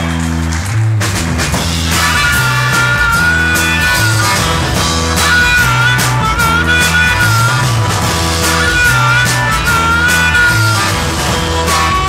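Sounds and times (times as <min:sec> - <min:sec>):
blues band playing: 0:00.0 - 0:12.0.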